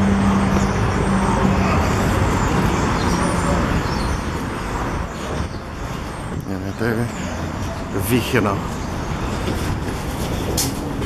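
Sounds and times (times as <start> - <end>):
traffic and street noise: 0.0 - 11.0.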